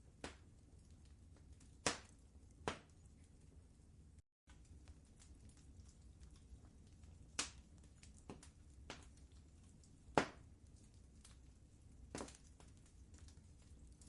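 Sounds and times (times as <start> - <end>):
low steady rumble: 0.0 - 14.0
wood fire crackling: 0.0 - 14.0.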